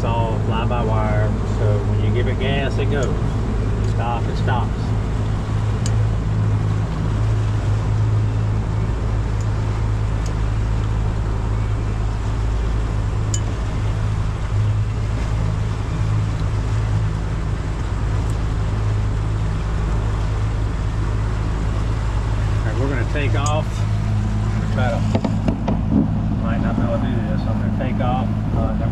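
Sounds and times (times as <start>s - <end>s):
outboard motor humming: 0.0s - 28.9s
water wash: 0.0s - 28.9s.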